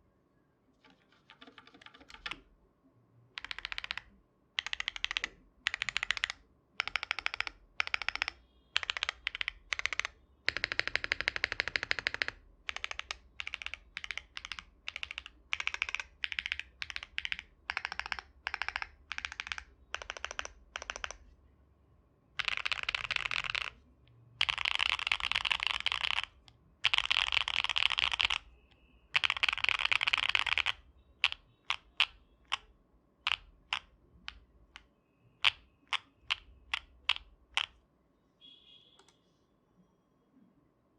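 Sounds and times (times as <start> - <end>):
mechanical keyboard typing: 0.8 - 2.4, 3.4 - 21.3, 22.4 - 23.8, 24.4 - 28.5, 29.1 - 37.8.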